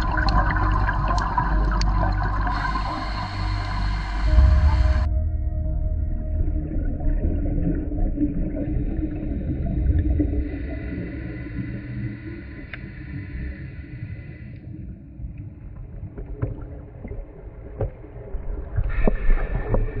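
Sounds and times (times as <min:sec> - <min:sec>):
muffled underwater rumble: 0:00.0 - 0:20.0.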